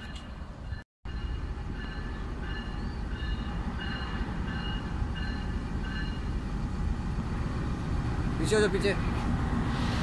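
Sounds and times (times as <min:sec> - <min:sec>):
locomotive engine and wheels rumbling: 0:00.0 - 0:10.0.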